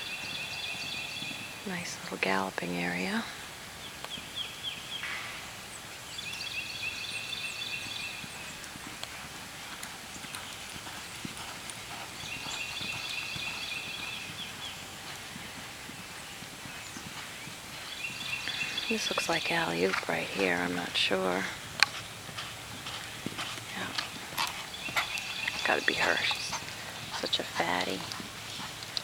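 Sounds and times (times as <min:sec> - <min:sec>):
horse galloping on dirt: 0:00.0 - 0:29.0.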